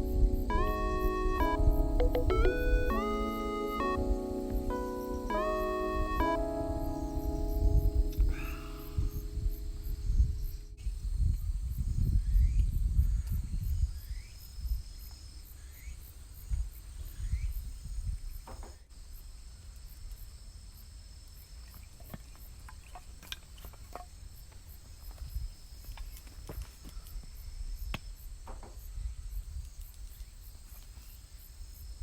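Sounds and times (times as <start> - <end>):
crickets and insects chirping: 0.0 - 32.0.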